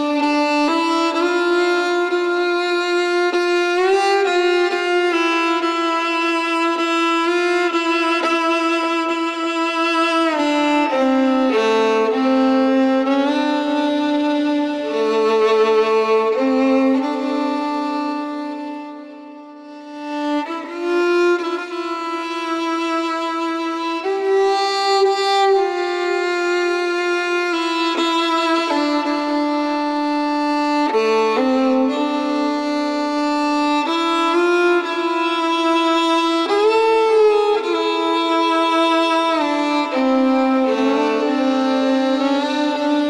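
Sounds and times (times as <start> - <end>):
slow violin melody: 0.0 - 43.0.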